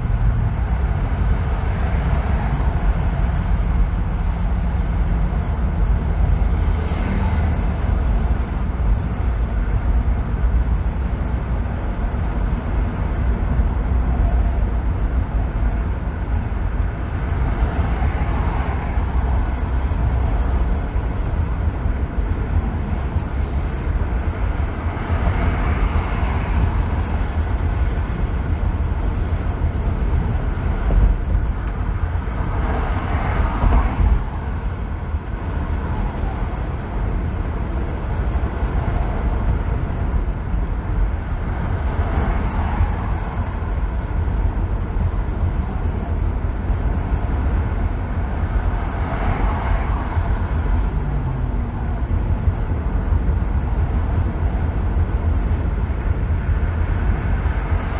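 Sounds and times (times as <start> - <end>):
road rumble: 0.0 - 57.9
tyre and wind noise: 0.0 - 57.9.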